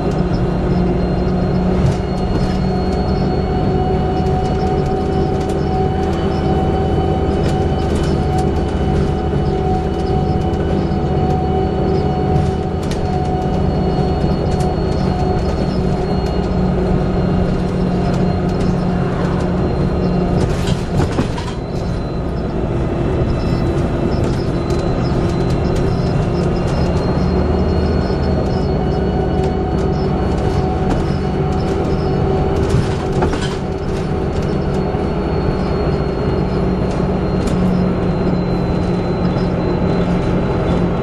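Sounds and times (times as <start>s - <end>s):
bus diesel engine drone: 0.0s - 41.0s
thin whistling whine: 0.0s - 41.0s.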